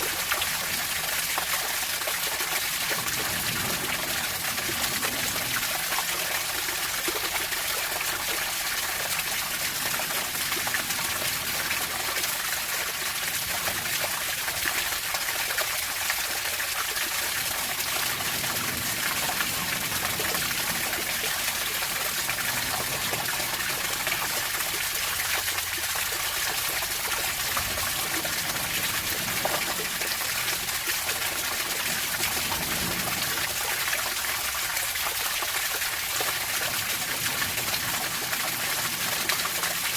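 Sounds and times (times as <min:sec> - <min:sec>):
water drips: 0:00.0 - 0:39.9
water trickling and splashing: 0:00.0 - 0:39.9.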